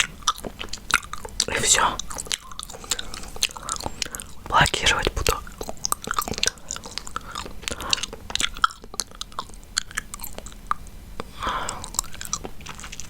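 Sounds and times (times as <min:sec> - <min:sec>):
mouth chewing gum: 0:00.0 - 0:13.0.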